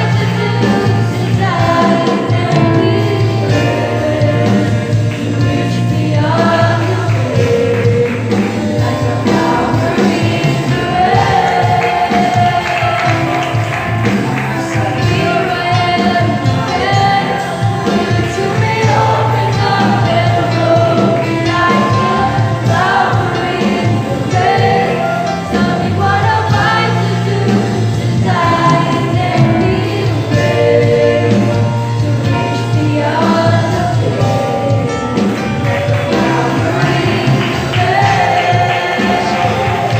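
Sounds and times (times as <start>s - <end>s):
instrumental accompaniment: 0.0s - 39.9s
youth choir singing gospel: 0.0s - 39.9s.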